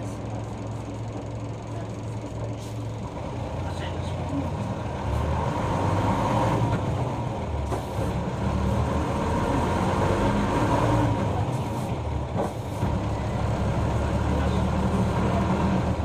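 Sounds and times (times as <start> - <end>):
bus diesel engine running: 0.0 - 16.0
road noise: 0.0 - 16.0.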